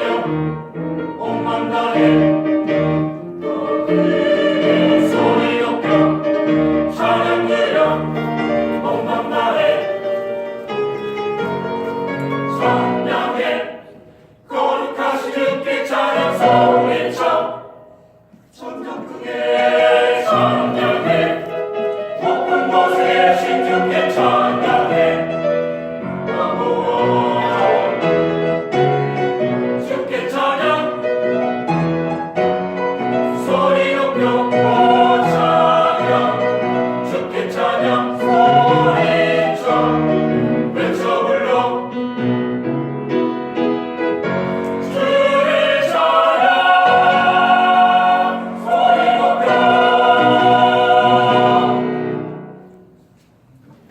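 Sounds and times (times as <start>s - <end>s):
church choir singing in harmony: 0.0s - 53.1s
musical accompaniment: 0.0s - 53.8s.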